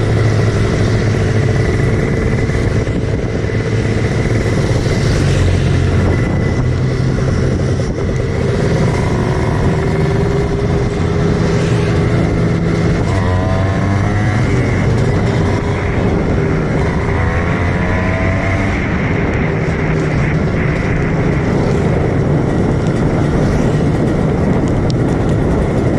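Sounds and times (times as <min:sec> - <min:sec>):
two-stroke motorcycle engine revving: 0:00.0 - 0:25.9.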